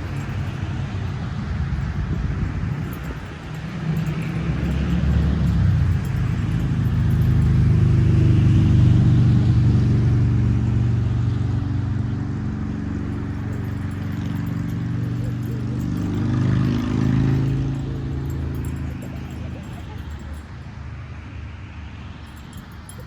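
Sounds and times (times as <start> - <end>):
vehicle engine running: 0.0 - 20.7.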